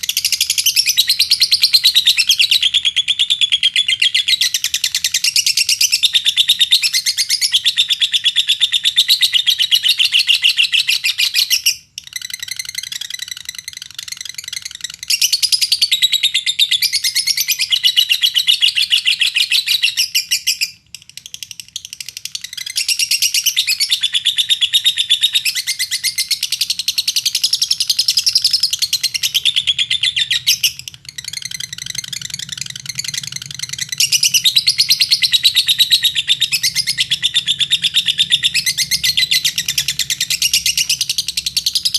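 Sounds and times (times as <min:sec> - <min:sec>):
lovebird chattering trill: 0:00.0 - 0:41.9.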